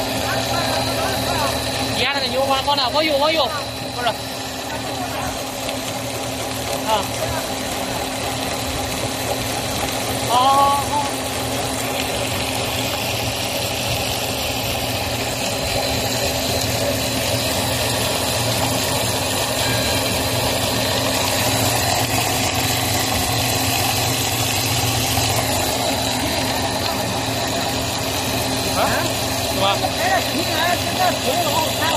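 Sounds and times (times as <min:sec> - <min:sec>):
machine drone: 0:00.0 - 0:31.9
thin high whine: 0:00.0 - 0:31.9.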